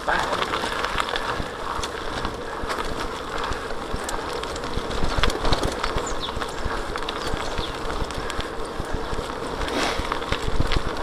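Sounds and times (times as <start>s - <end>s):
bicycle tyre rumble on dirt: 0.0s - 11.0s
bike rattling over bumps: 0.0s - 11.0s.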